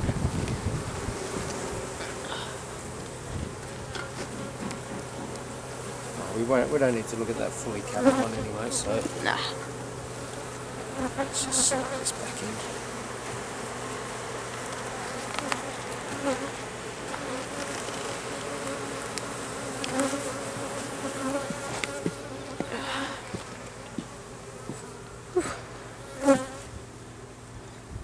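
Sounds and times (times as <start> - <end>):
bees buzzing: 0.0 - 27.4.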